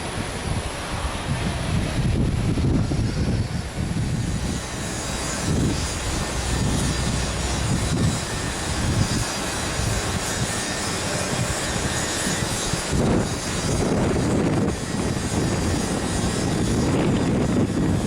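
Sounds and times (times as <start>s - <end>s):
airliner engines rumbling: 0.0s - 18.0s.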